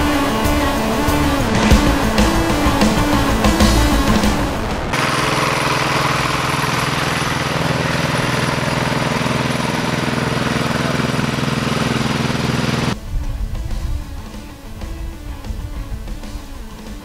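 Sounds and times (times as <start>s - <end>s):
diesel engine chugging: 0.0s - 16.8s.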